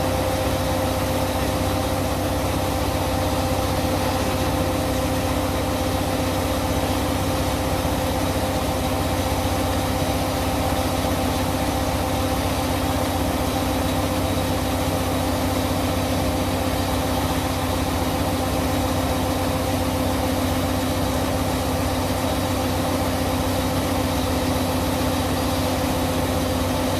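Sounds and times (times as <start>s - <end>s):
harvester engine hum: 0.0s - 26.9s.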